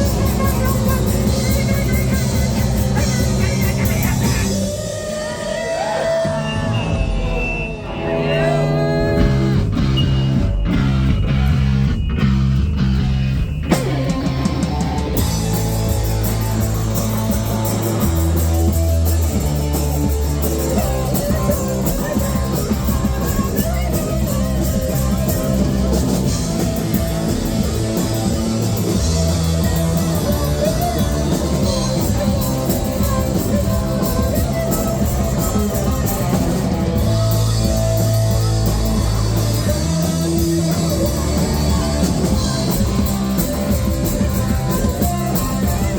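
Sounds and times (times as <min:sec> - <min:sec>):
live rock band: 0:00.0 - 0:45.9.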